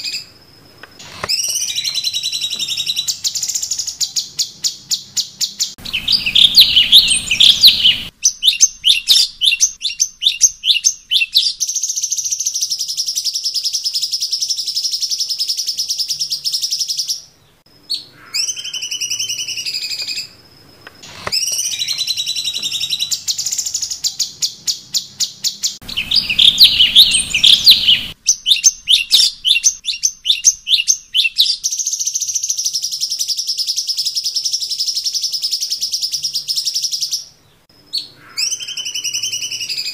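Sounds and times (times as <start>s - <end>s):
bird chirping and trilling: 1.0s - 20.4s, 21.0s - 39.9s
bird whistled notes: 1.3s - 14.1s, 18.0s - 20.4s, 21.4s - 37.0s, 38.0s - 39.9s.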